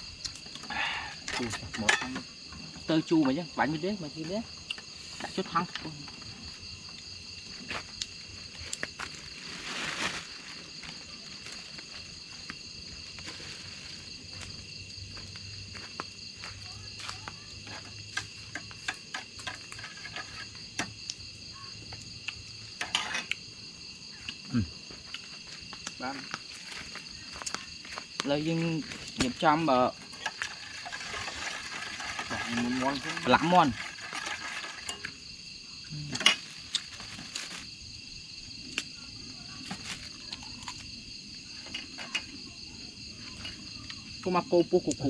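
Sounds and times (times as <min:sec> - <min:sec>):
night insects trilling: 0:00.0 - 0:45.0.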